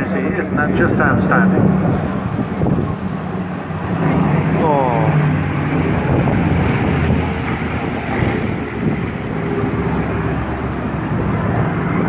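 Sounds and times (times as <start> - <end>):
propeller aircraft engines flying past: 0.0 - 12.0.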